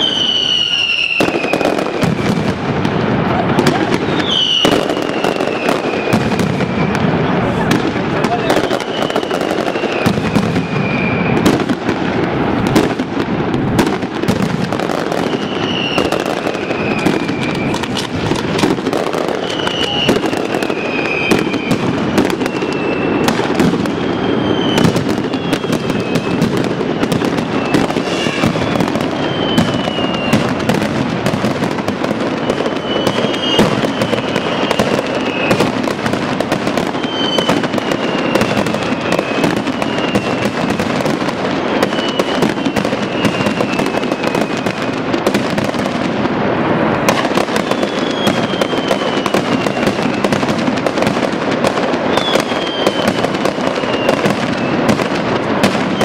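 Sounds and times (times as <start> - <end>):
firecrackers banging: 0.0 - 56.0
whistling fireworks: 0.0 - 56.0.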